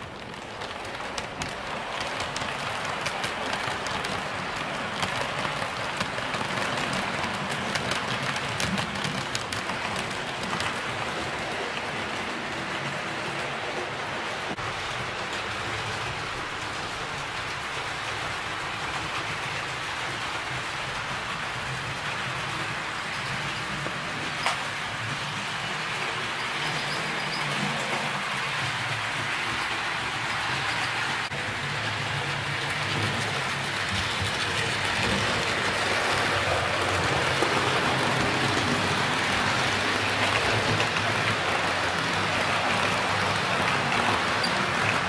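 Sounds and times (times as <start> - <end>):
model train wheels rumbling on rail: 0.0 - 45.0
wheels clicking over rail joints: 0.0 - 45.0.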